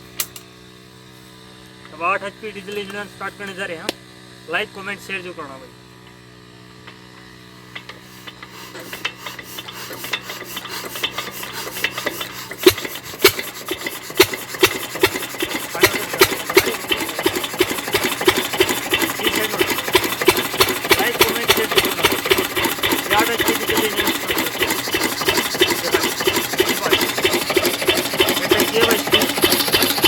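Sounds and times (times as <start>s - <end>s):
diesel engine clattering: 4.6s - 30.0s.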